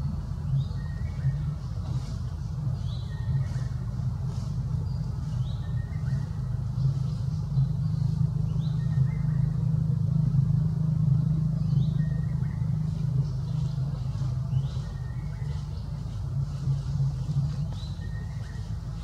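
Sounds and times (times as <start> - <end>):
engine rumbling: 0.0 - 19.0.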